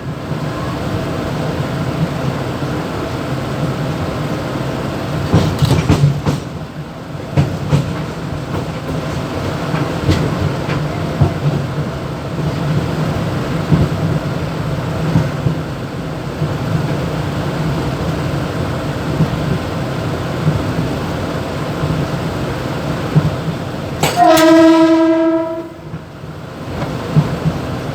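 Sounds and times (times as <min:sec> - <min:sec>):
electric train hum: 0:00.0 - 0:27.9
train clicks and knocks: 0:00.0 - 0:27.9.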